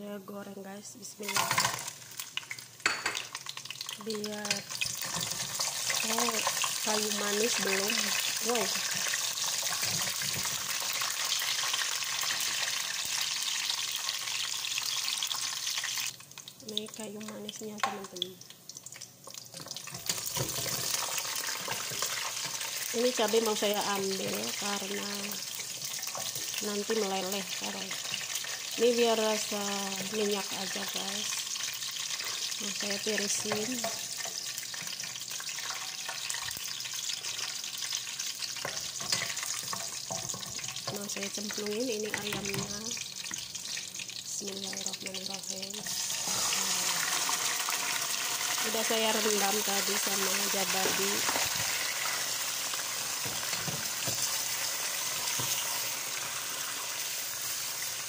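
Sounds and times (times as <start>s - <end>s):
hot oil sizzling in a pot: 1.1s - 58.0s.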